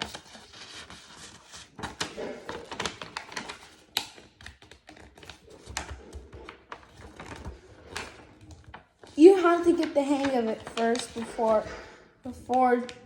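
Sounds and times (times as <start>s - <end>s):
paper being folded and creased: 0.0s - 13.0s.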